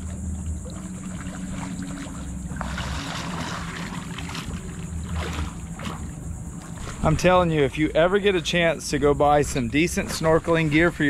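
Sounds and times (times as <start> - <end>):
steady low hum: 0.0 - 11.0
water sloshing around boat: 0.0 - 11.0.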